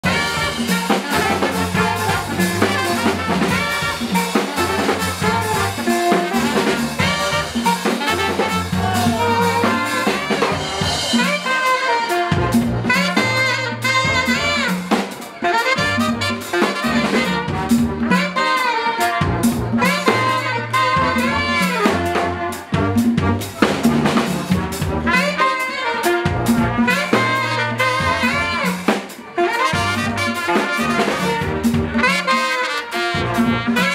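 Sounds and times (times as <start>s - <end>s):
brass band playing: 0.0s - 33.9s
drum kit: 0.0s - 33.9s
saxophone: 0.0s - 33.9s
trombone: 0.0s - 33.9s
trumpet: 0.0s - 33.9s.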